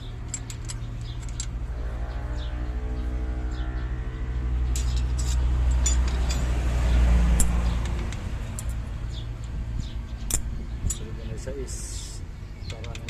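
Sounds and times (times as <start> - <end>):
vehicle engine running: 0.0 - 12.7
birds chirping: 0.0 - 13.0.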